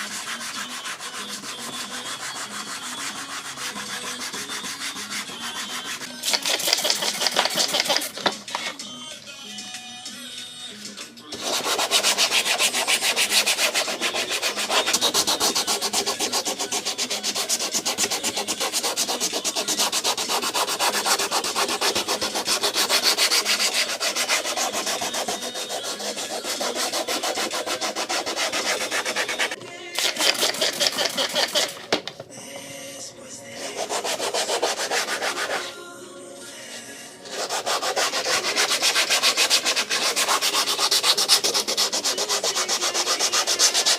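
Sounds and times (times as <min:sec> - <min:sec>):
sandpaper rubbing by hand: 0:00.0 - 0:08.8, 0:11.4 - 0:31.8, 0:33.6 - 0:35.8, 0:37.3 - 0:43.9.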